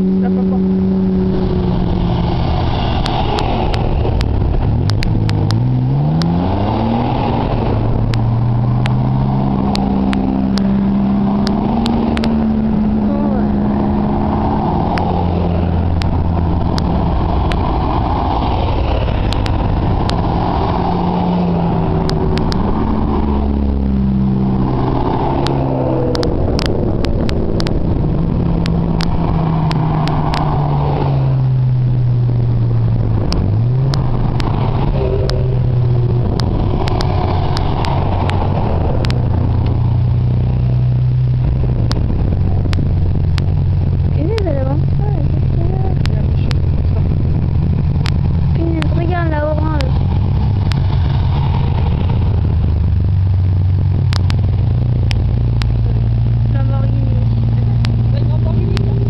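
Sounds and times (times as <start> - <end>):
sports cars driving past revving: 0.0 - 59.0.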